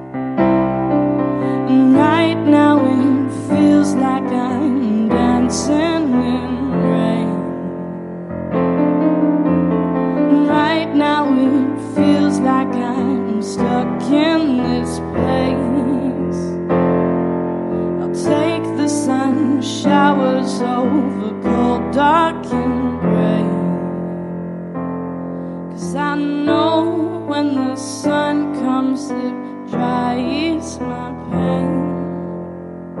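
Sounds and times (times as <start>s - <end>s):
slow piano chords: 0.0s - 33.0s
woman singing wordless melody: 1.4s - 8.1s, 10.1s - 16.7s, 17.7s - 24.4s, 25.7s - 32.6s.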